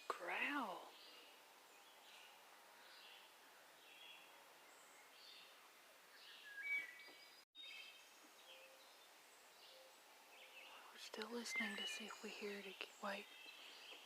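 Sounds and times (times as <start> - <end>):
bird chirps: 0.9 - 14.0.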